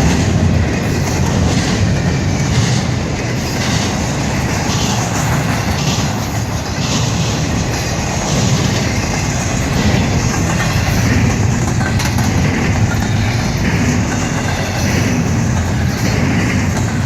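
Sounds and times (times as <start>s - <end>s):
diesel locomotives rumbling: 0.0s - 17.0s.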